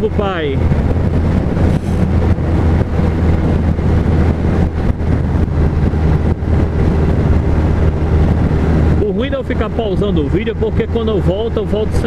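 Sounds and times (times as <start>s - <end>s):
motorcycle engine droning: 0.0s - 12.0s
wind rushing over microphone: 0.0s - 12.0s.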